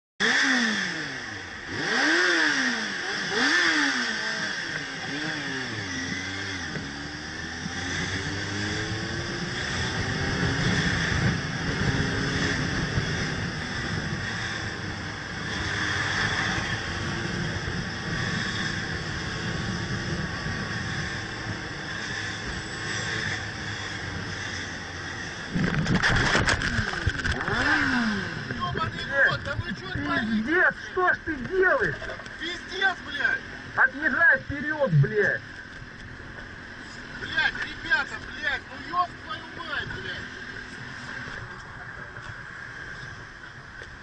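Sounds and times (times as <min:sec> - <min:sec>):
motorcycle engine revving: 0:00.2 - 0:44.0
road noise rushing: 0:00.2 - 0:44.0.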